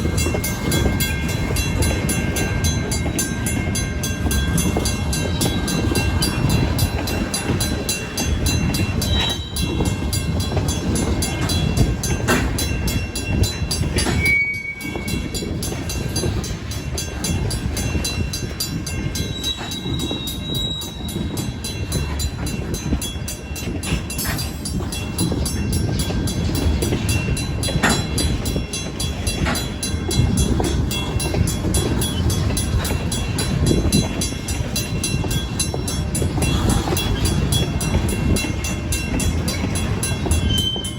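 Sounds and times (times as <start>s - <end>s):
crossing bell ringing: 0.0s - 40.9s
sharp rail clacks: 0.0s - 40.9s
train wheels rumbling on rails: 0.0s - 40.9s.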